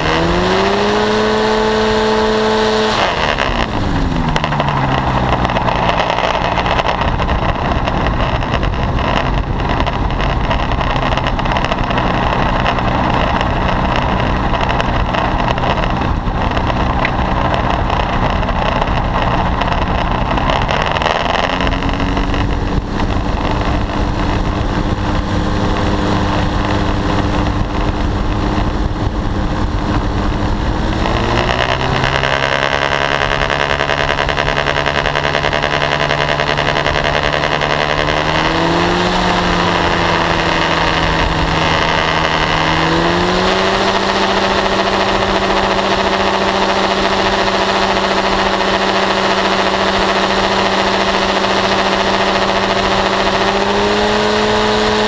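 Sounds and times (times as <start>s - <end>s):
engine and propeller running: 0.0s - 55.0s.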